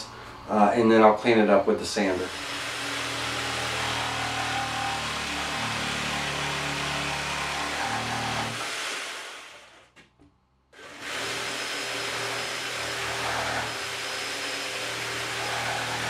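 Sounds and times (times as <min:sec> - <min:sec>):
jigsaw cutting wood: 0:02.0 - 0:09.9, 0:10.8 - 0:16.0.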